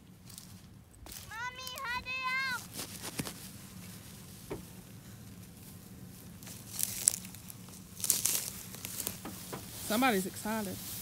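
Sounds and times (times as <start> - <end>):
dry hay rustling: 0.0 - 11.0.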